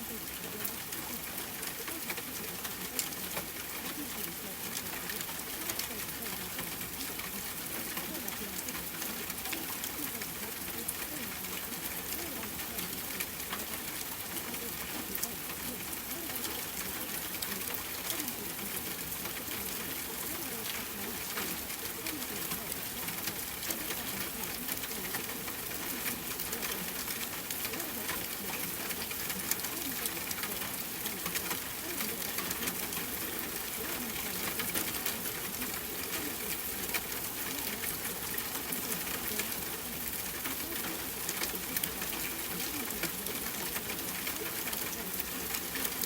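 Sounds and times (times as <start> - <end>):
rain with drop ticks: 0.0 - 46.0.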